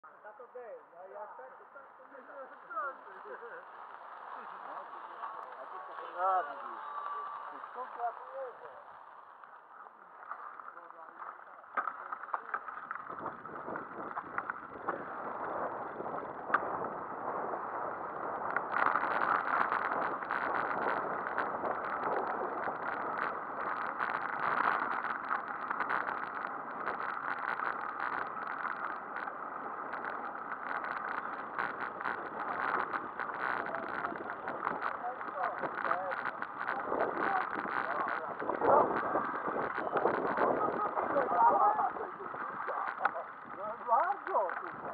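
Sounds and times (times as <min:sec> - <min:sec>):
bicycle tyres crunching on gravel: 0:02.2 - 0:44.9
bicycle rattling: 0:03.0 - 0:44.9.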